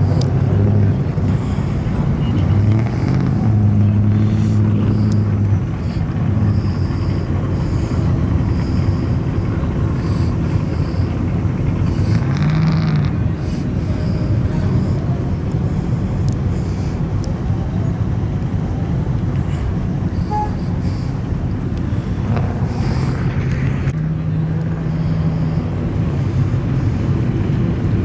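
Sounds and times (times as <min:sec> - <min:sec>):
truck engines low rumble: 0:00.0 - 0:28.0.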